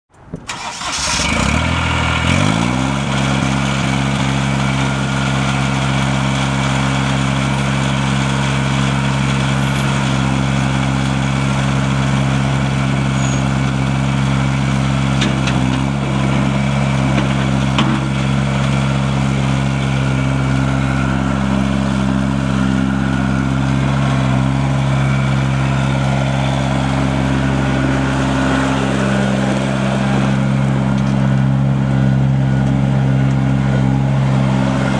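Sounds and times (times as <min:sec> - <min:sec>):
diesel engine starting and running: 0:00.1 - 0:34.9.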